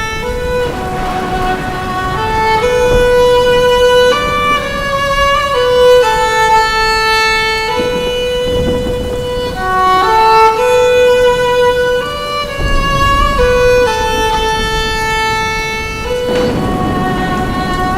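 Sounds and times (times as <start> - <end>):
slow violin melody: 0.0 - 17.9.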